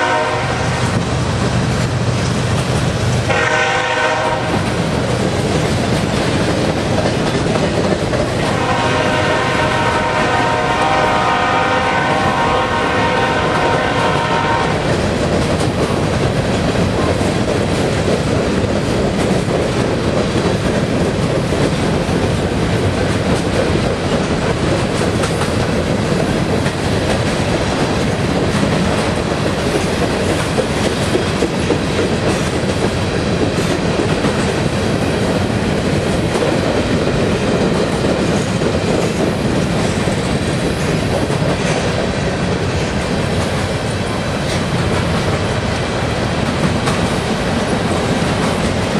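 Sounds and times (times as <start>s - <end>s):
freight train rolling past: 0.0s - 48.9s.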